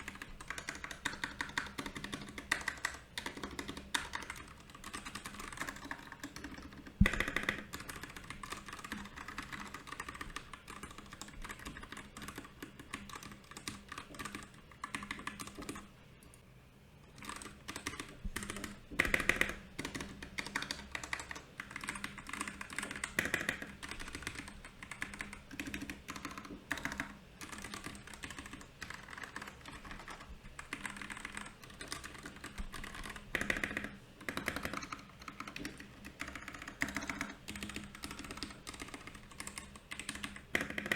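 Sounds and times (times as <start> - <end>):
mechanical keyboard typing: 0.0 - 15.9, 17.2 - 40.9.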